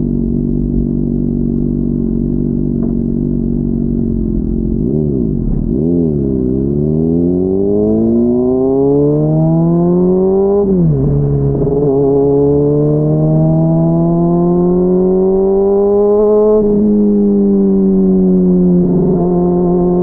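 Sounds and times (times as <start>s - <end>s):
muffled motorcycle engine revving: 0.0s - 20.0s.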